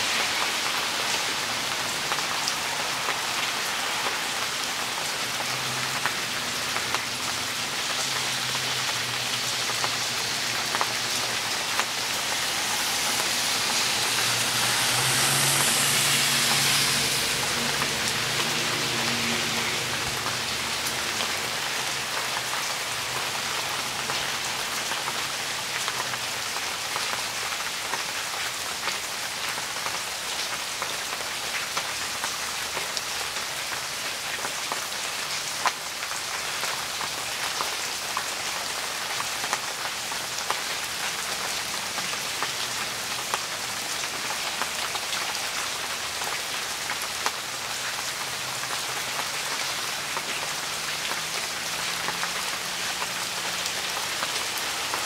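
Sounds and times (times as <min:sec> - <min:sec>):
heavy rain on wet ground: 0:00.0 - 0:55.0.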